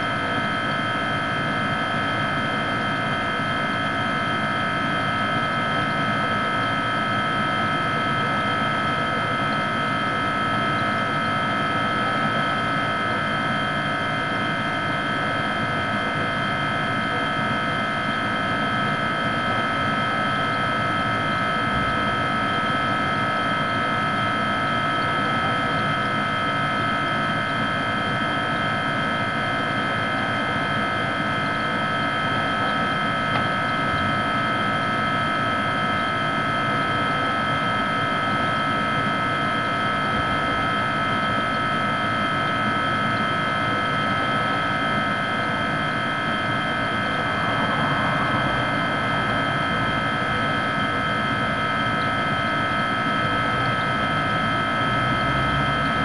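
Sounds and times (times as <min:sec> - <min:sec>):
refrigerator humming with whine: 0:00.0 - 0:56.0.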